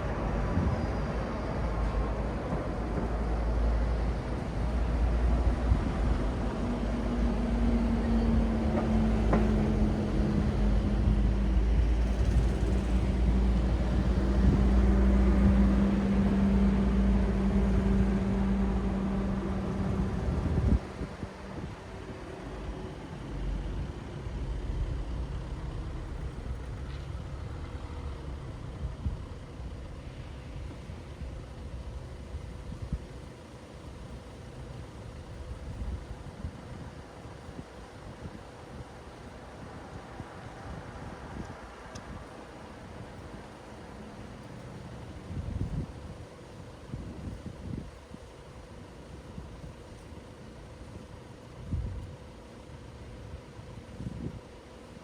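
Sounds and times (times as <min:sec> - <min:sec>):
low engine hum: 0:00.0 - 0:55.0
road traffic rumble: 0:00.0 - 0:55.0.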